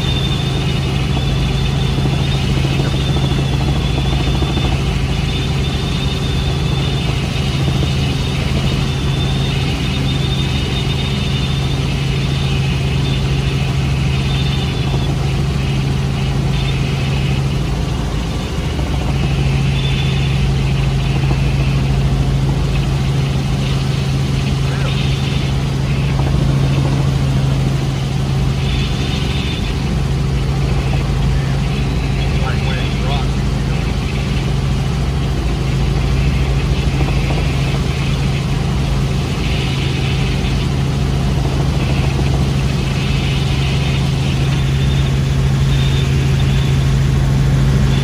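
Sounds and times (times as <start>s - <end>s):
helicopter engine and rotor drone: 0.0s - 48.0s.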